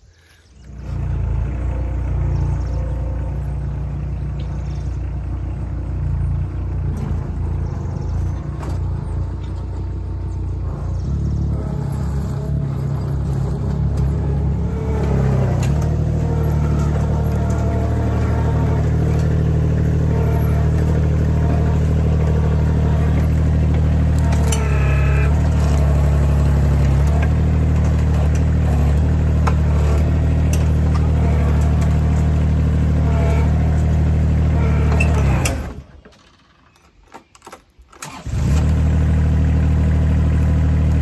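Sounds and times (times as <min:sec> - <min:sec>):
skid steer engine running: 0:00.0 - 0:41.0.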